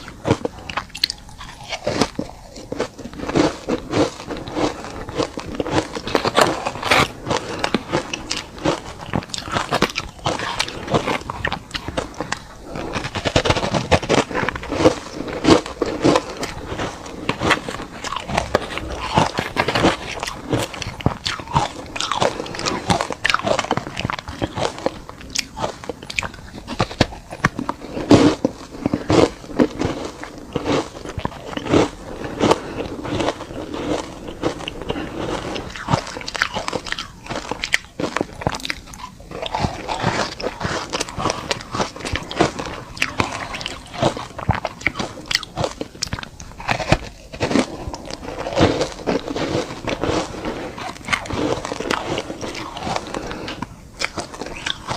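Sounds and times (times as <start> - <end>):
ice being chewed crunching: 0.0 - 54.9.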